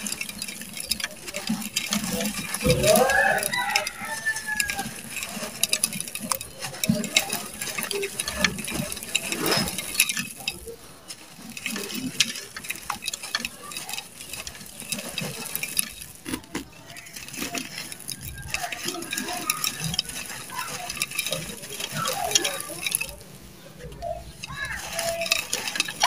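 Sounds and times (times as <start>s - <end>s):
falling grains pattering: 0.0s - 26.0s
gritty sand crunching: 0.0s - 26.0s.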